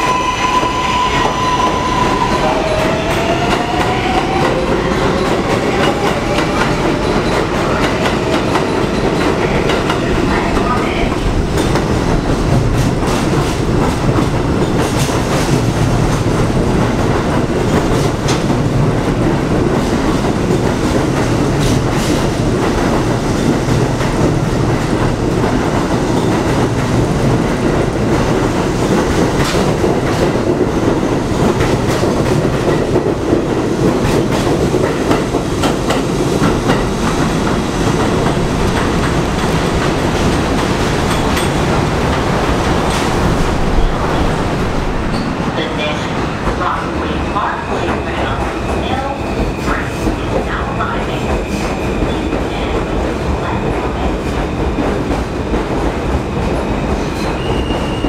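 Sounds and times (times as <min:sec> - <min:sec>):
steel wheels rumbling on rails: 0:00.0 - 0:58.0.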